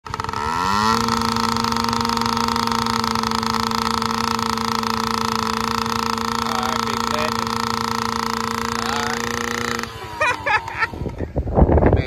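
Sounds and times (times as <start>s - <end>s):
small two-stroke engine idling: 0.0s - 11.4s.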